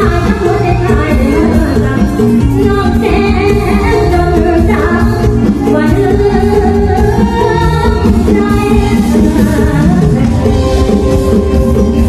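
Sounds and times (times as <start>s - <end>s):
girl singing into a microphone: 0.0s - 10.4s
loud backing track: 0.0s - 12.0s.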